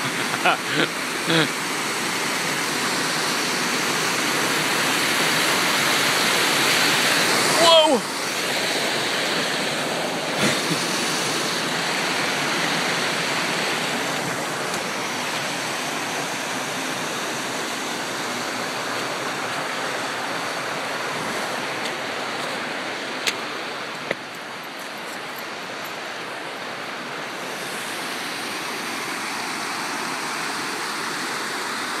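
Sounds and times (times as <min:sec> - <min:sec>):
waterfall and stream rushing: 0:00.0 - 0:32.0.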